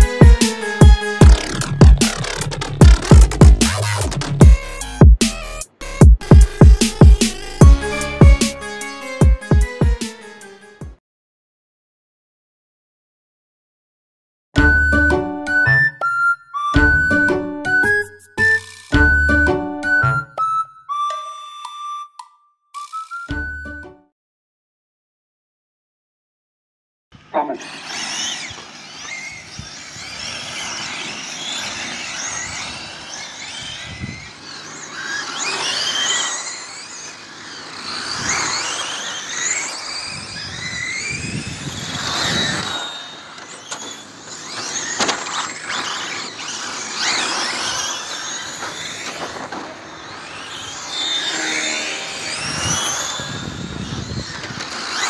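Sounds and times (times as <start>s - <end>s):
electric toy cars whining: 0.0s - 10.9s, 14.6s - 23.6s, 27.2s - 55.0s.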